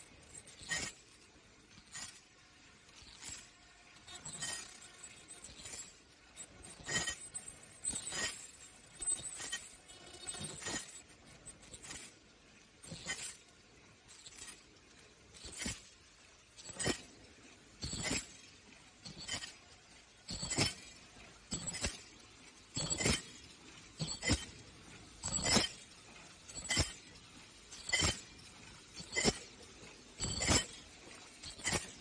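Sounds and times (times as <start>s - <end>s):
low steady background: 0.0s - 32.0s.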